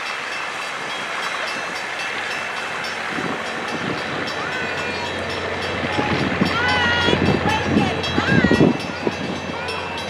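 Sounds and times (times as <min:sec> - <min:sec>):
rail coaches rolling on wheels: 0:00.0 - 0:10.0.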